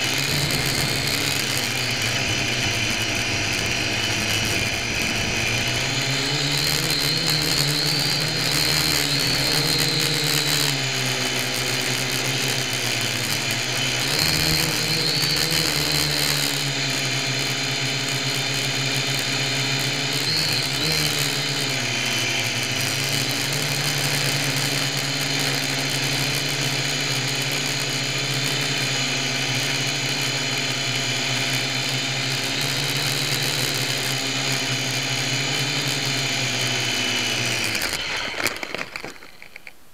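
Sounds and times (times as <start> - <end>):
quadcopter motors buzzing whine: 0.0 - 39.9.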